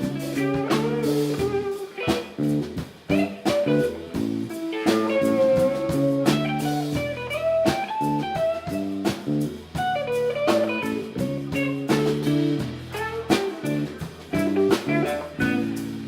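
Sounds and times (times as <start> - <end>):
drum hits: 0.0 - 16.0
live blues band playing: 0.0 - 16.0.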